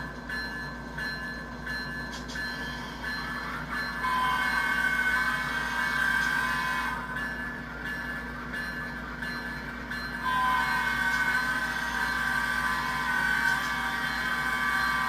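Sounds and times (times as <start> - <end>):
model train mechanical hum: 0.0 - 15.0.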